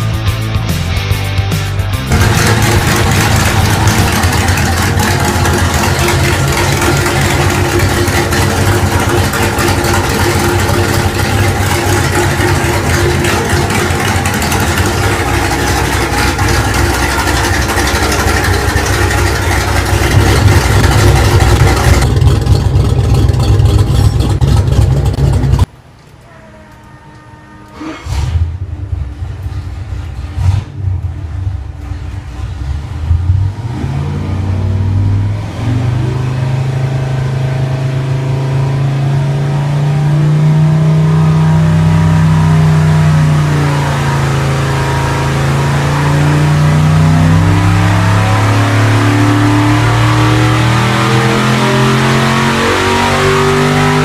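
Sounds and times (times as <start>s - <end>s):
car engine with deep exhaust: 1.7s - 25.7s, 28.0s - 54.0s.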